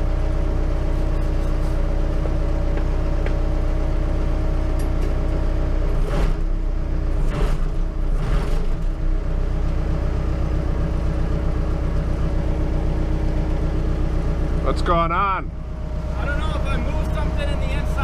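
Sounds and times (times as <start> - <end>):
backhoe engine running: 0.0 - 18.0.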